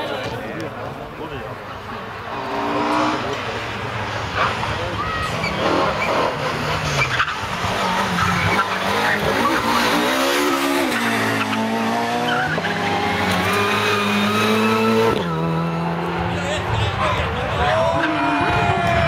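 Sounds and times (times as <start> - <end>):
rally car engine at full throttle: 0.6 - 19.0.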